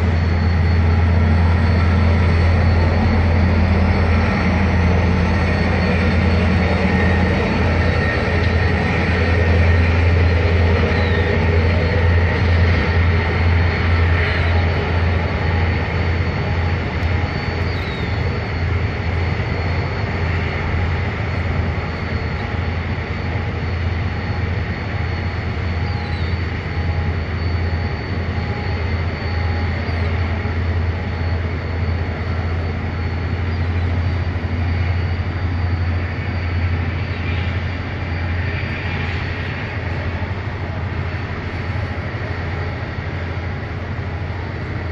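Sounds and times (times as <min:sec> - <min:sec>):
ferry engines deep drone: 0:00.0 - 0:44.9
thin high whine: 0:00.0 - 0:44.9.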